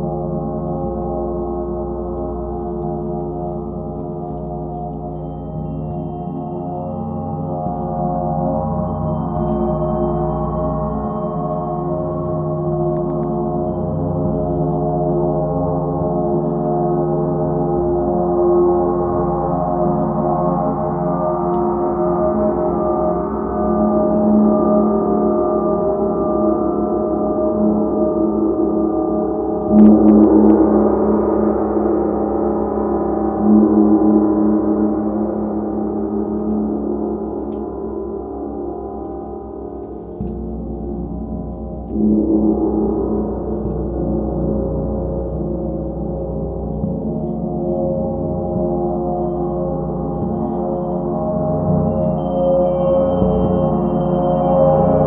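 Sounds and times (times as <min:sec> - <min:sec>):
gong played with soft mallets: 0:00.0 - 0:55.0.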